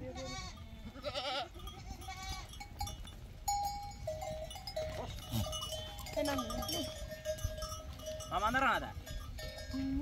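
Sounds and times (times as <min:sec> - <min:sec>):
sheep and goats bleating: 0:00.0 - 0:08.3.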